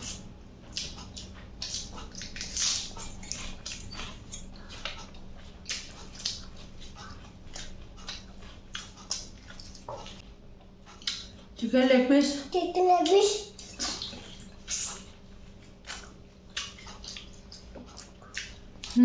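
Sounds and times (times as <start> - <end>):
wet mouth clicks: 0.0 - 10.2, 10.9 - 11.4, 13.6 - 15.1, 15.8 - 19.0
chewing and lip smacking: 0.0 - 11.6, 13.5 - 19.0.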